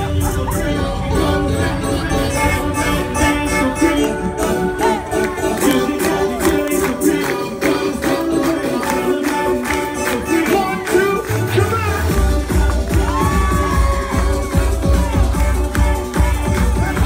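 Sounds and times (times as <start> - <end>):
loud dance music: 0.0 - 17.0
person singing: 0.0 - 17.0.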